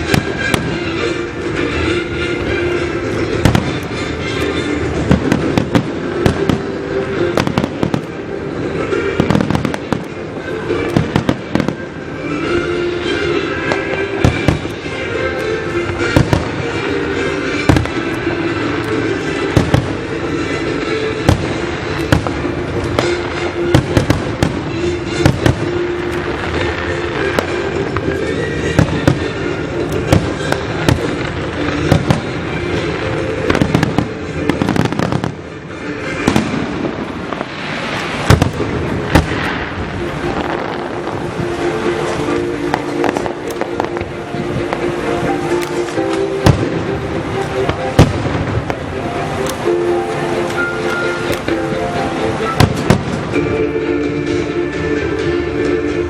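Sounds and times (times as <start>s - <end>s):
fireworks bursting with sharp bangs: 0.0s - 53.7s
music playing: 0.0s - 56.0s.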